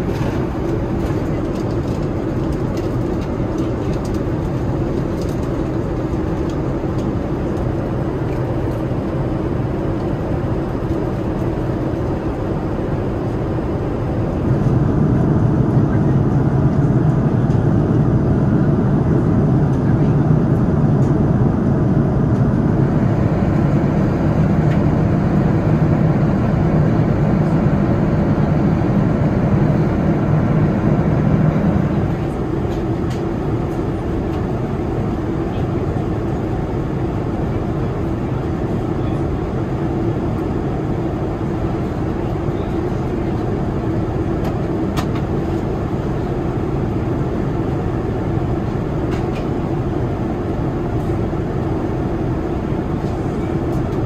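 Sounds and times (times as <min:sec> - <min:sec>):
airliner cabin airflow and engine drone: 0:00.0 - 0:54.0.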